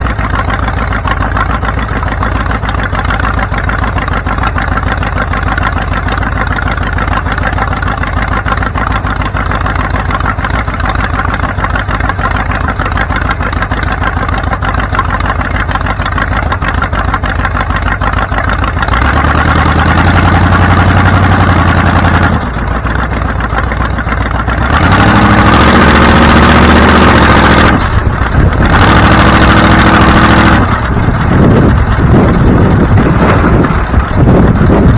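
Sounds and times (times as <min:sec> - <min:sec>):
vehicle engine revving: 0:00.0 - 0:34.9.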